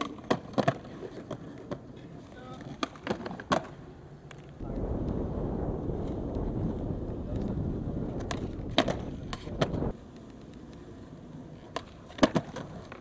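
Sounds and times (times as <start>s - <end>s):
skateboard clacks: 0.0s - 4.6s, 7.0s - 13.0s
skateboard wheels rolling on concrete: 0.0s - 13.0s.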